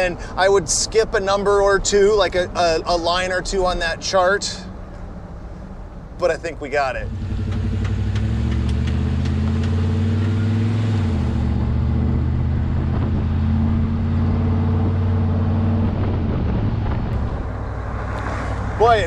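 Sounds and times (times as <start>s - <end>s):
car engine and exhaust drone: 0.0s - 19.0s.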